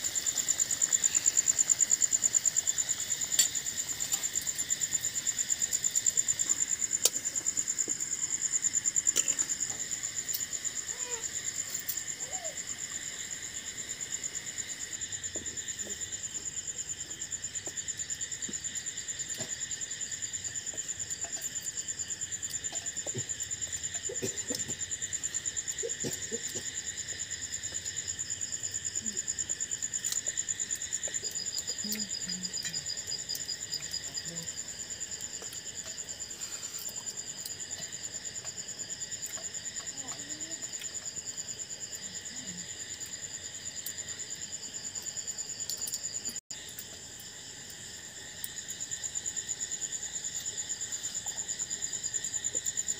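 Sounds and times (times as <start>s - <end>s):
crickets trilling: 0.0s - 52.9s
pulsing insect trill: 0.0s - 52.9s.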